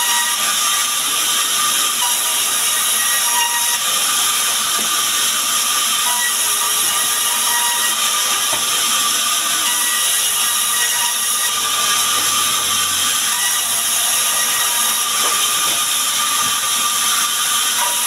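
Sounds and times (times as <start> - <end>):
saw ripping timber: 0.0 - 18.0.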